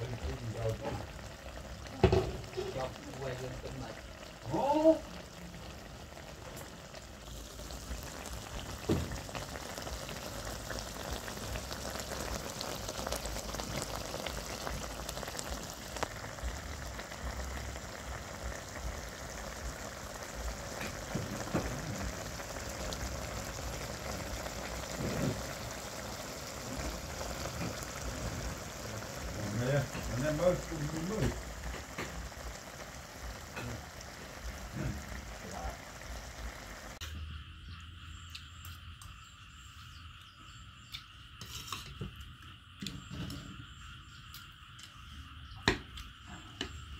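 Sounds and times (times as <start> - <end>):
stew bubbling and crackling: 0.0 - 38.9, 40.8 - 46.9.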